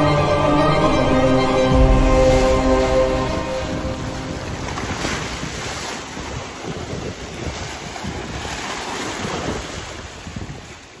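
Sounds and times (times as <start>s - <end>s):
sea waves breaking: 0.0s - 11.0s.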